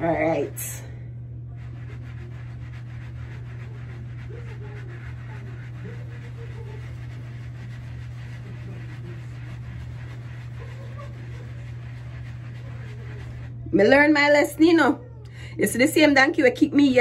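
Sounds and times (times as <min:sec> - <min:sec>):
sponge rubbing hair: 0:00.0 - 0:00.8, 0:01.4 - 0:14.9
steady low hum: 0:00.0 - 0:17.0.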